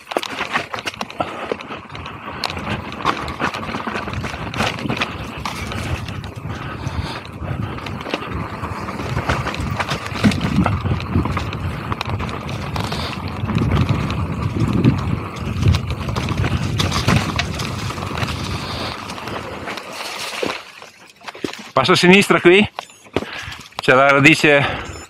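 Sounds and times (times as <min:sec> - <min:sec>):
bike rattling and knocking: 0:00.0 - 0:24.7
bike tyres on dirt and leaves: 0:00.0 - 0:24.9.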